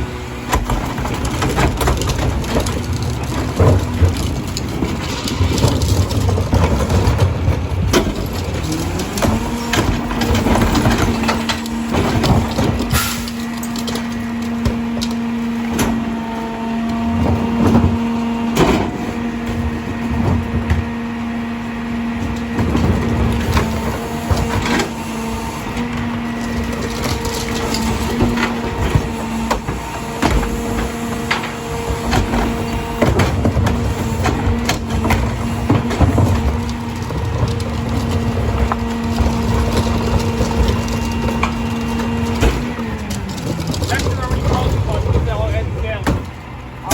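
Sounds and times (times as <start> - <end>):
garbage truck engine: 0.0 - 46.9
hydraulic whine: 0.0 - 46.9
trash cracking and crunching: 0.0 - 46.9.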